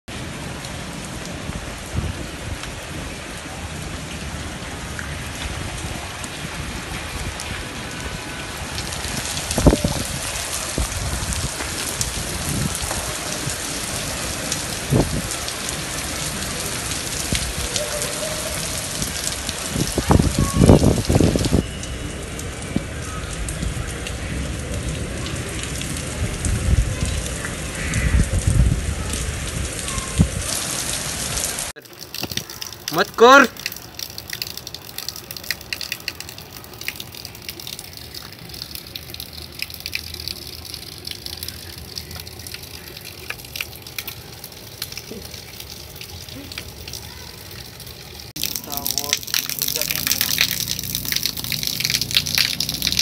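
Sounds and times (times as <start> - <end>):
rain splashing on concrete rooftop: 0.1 - 53.0.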